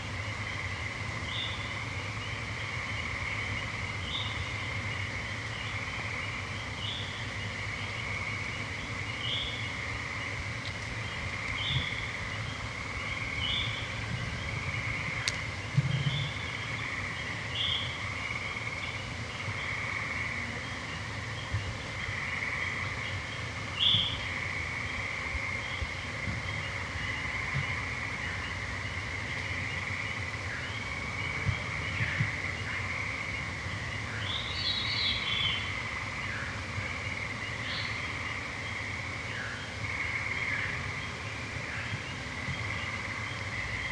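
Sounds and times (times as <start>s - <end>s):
frogs and toads trilling: 0.0s - 43.9s.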